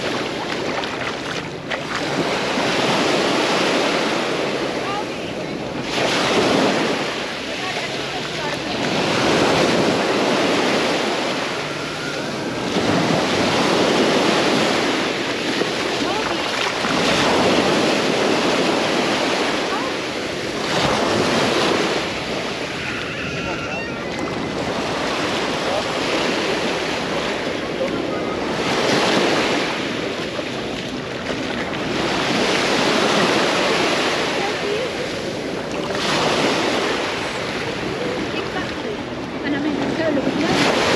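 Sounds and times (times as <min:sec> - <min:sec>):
sea waves on beach: 0:00.0 - 0:40.9.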